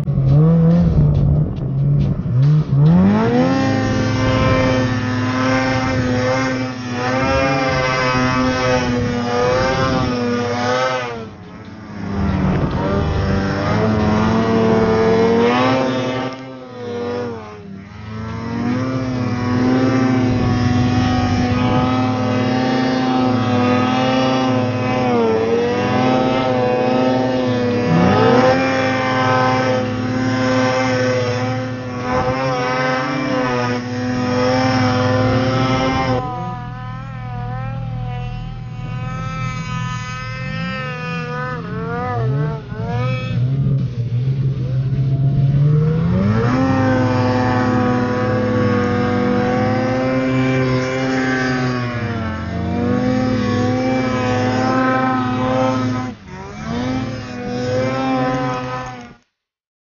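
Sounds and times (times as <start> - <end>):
snowmobile engine revving: 0.0 - 59.3.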